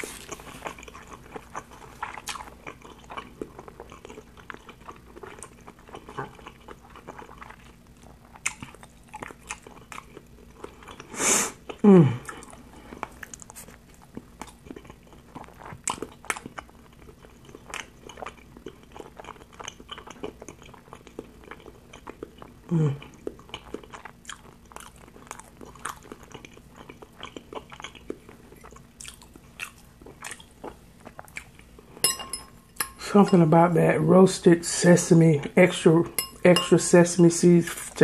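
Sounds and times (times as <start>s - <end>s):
person chewing: 0.0s - 33.7s.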